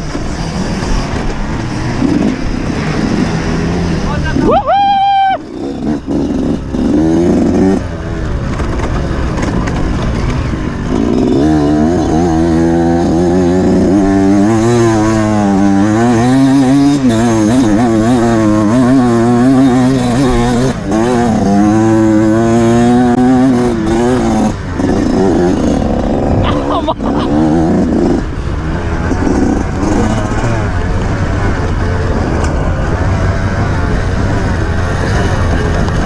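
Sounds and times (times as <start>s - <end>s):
off-road motorcycle engine revving: 0.0s - 36.0s.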